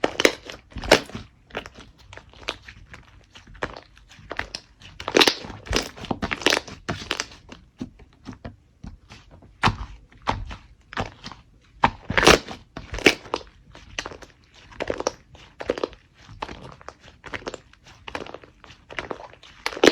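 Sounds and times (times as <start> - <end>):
slime squeezed crunching: 0.0 - 7.4, 9.2 - 19.9.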